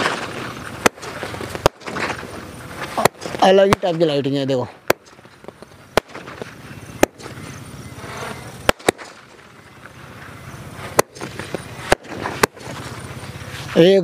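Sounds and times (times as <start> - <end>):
firework rushing hiss: 0.0 - 4.0, 4.8 - 14.0
firework bangs: 0.0 - 13.4.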